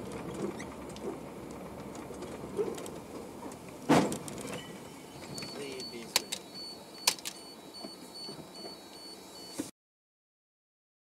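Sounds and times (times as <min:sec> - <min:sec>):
engine and road noise in cab: 0:00.0 - 0:09.7.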